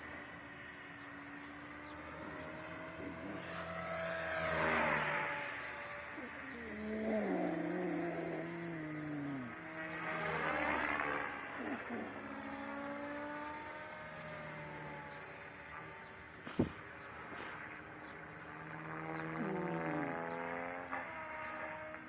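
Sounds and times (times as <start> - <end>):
helicopter motor and rotor whine: 0.0 - 22.0.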